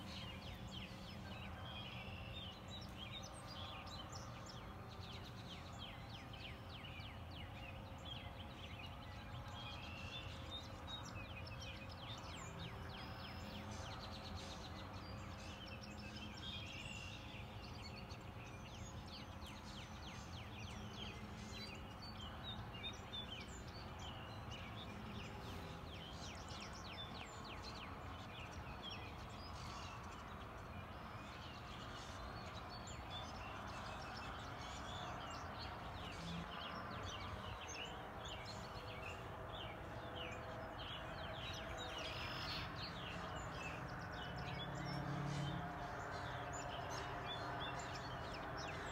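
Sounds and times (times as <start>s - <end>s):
low background noise: 0.0s - 48.9s
wild birds chirping: 0.0s - 48.9s.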